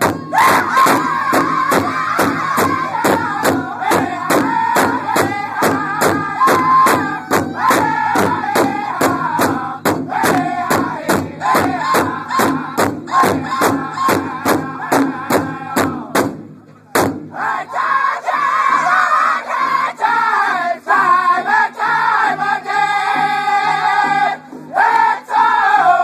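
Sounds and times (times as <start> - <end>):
large drum beating steadily: 0.0 - 26.0
men singing in high voices: 0.1 - 16.2, 17.3 - 26.0.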